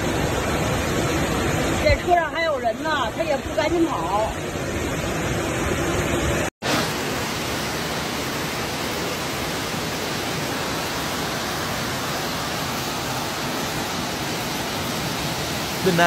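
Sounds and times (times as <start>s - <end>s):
rushing floodwater roar: 0.0s - 16.0s.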